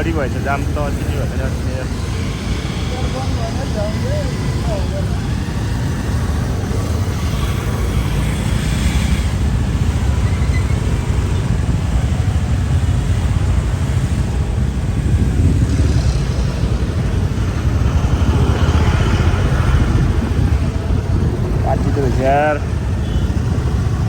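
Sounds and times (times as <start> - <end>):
traffic rumble and road noise: 0.0 - 24.0.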